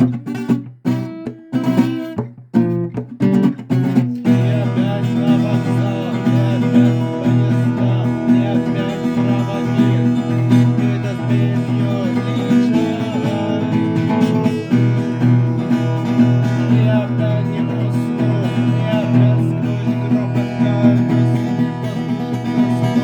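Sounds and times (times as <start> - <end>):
sliding melodic guitar notes: 0.0 - 23.0
strummed acoustic guitar: 0.0 - 23.0.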